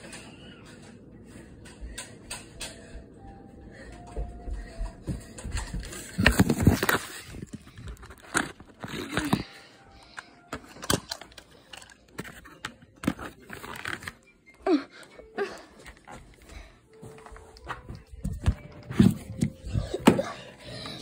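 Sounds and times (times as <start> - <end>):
crinkling and scraping of handling: 3.9 - 21.0.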